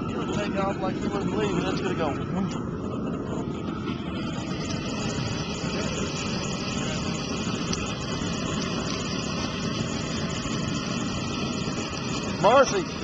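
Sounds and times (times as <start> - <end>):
gas burner flame roaring: 0.0 - 13.0.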